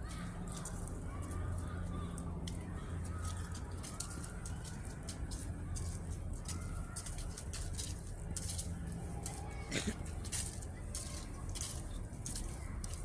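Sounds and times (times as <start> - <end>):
footsteps on dry leaves: 0.0 - 13.0.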